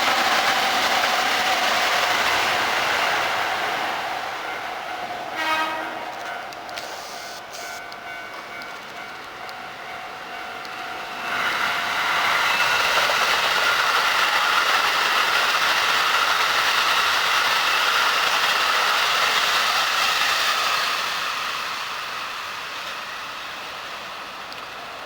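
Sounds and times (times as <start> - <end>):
electric train passing at speed: 0.0 - 25.0.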